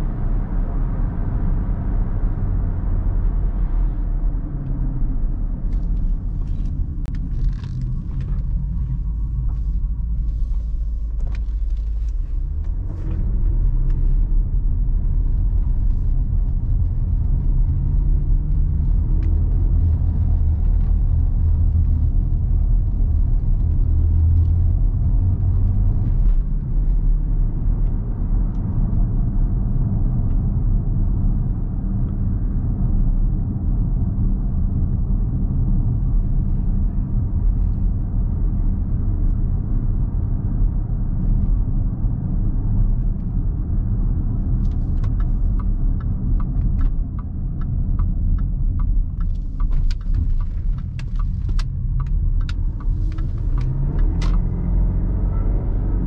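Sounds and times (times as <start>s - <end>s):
car engine rumble from cabin: 0.0s - 56.0s
road noise: 0.0s - 56.0s.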